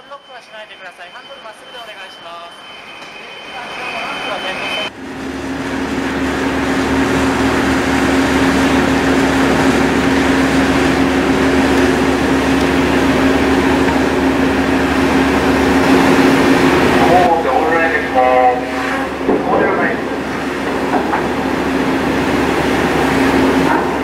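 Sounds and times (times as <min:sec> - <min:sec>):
ship engines droning: 0:00.0 - 0:24.0.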